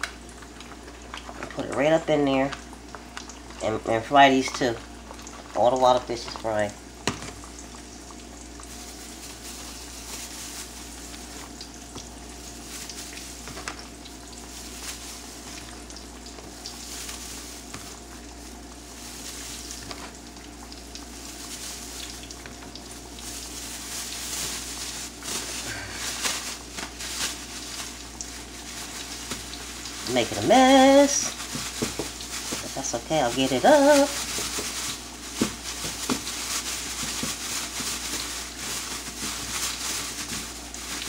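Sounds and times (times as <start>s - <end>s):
fish frying in hot oil: 0.0s - 41.0s.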